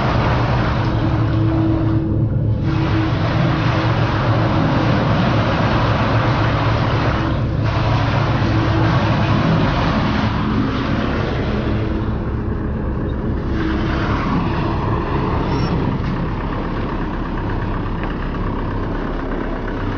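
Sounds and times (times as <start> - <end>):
truck diesel engine running: 0.0 - 19.9.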